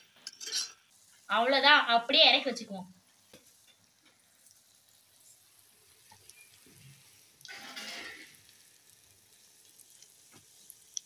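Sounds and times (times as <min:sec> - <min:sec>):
pickle sizzling in oil: 0:00.0 - 0:11.0.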